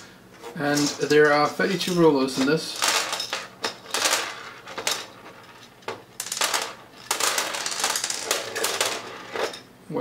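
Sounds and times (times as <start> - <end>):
plastic rollers rattling onto table: 0.6 - 9.6.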